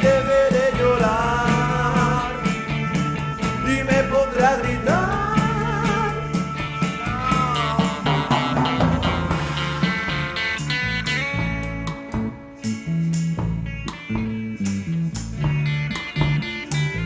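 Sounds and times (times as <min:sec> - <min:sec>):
bass notes: 0:00.0 - 0:17.0
rock song: 0:00.0 - 0:17.0
steady beat: 0:00.0 - 0:17.0.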